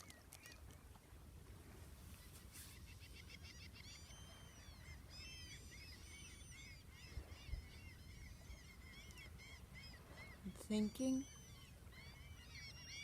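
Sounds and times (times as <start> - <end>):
flock of birds calling: 2.2 - 13.0.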